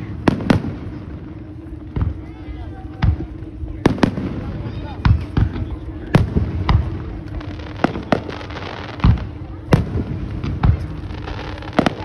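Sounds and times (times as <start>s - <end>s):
fireworks bursting: 0.0s - 12.0s
steady low hum: 0.0s - 12.0s.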